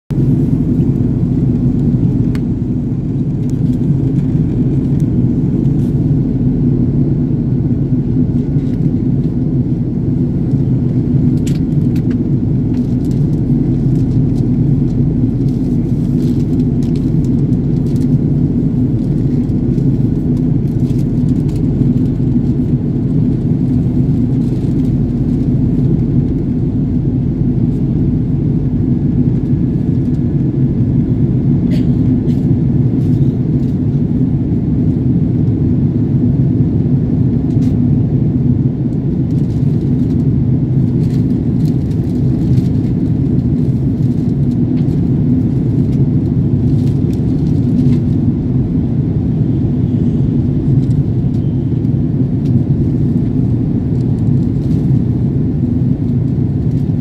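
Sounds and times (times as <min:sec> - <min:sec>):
jet airliner cabin roar: 0:00.1 - 0:57.0.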